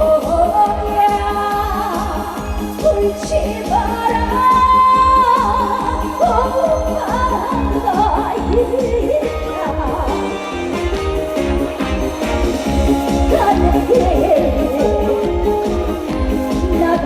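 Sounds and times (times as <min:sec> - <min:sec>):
band playing over steady beat: 0:00.0 - 0:17.0
woman singing: 0:00.0 - 0:17.0.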